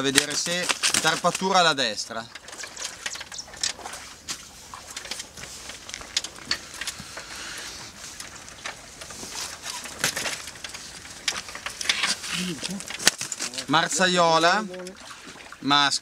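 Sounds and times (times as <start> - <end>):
handling clicks and rustling: 0.0 - 15.5.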